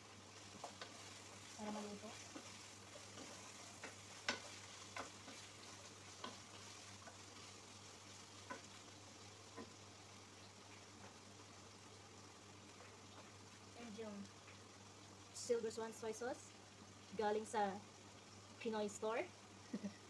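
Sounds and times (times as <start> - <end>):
faint sizzle: 0.0 - 20.0.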